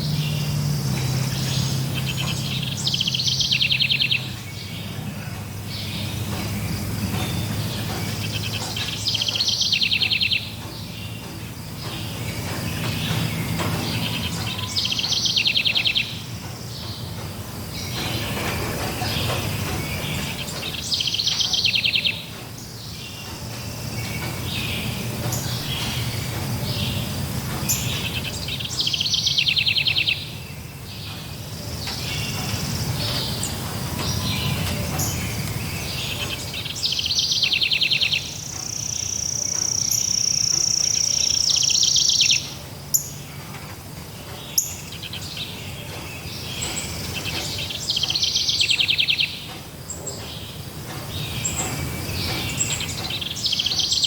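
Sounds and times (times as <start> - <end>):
birds singing trilled phrase: 0.0 - 54.0.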